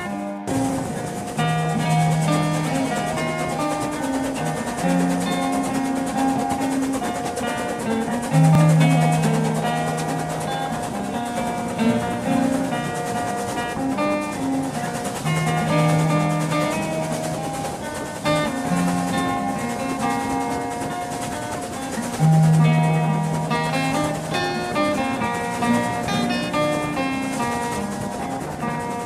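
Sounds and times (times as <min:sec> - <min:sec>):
acoustic folk guitar picking: 0:00.0 - 0:29.0.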